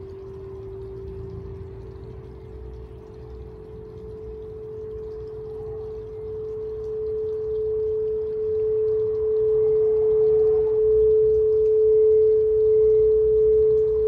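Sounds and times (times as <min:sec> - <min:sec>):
singing bowl tone: 0:00.0 - 0:14.0.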